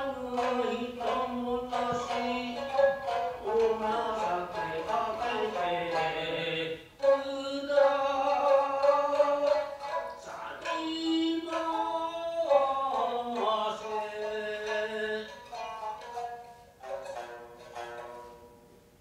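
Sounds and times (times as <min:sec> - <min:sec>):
person chanting melismatically: 0:00.0 - 0:16.2
shamisen: 0:00.0 - 0:19.0.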